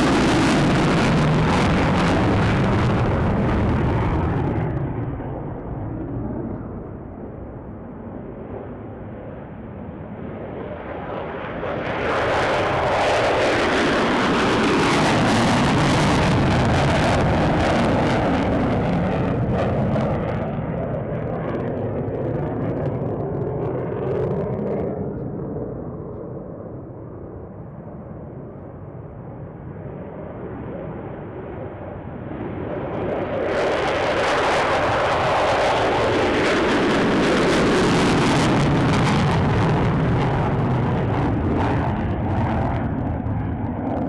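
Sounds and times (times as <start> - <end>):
fighter jet afterburner roar: 0.0 - 44.0.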